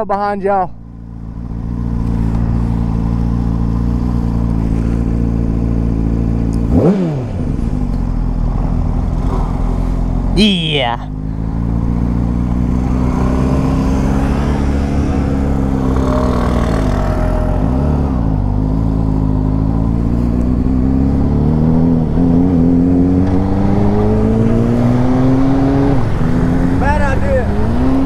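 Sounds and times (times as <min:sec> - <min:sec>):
motorcycle engine accelerating: 0:00.8 - 0:28.0.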